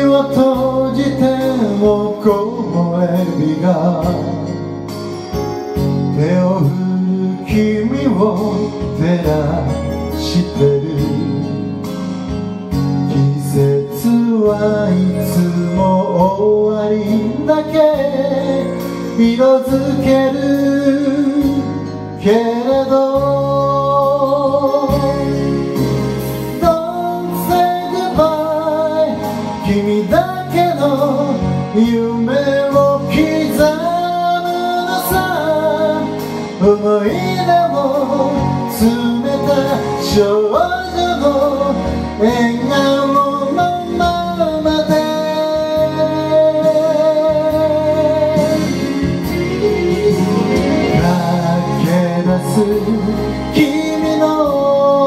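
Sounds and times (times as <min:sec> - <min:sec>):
person singing: 0:00.0 - 0:04.8, 0:05.7 - 0:55.0
backing track with guitar: 0:00.0 - 0:55.0.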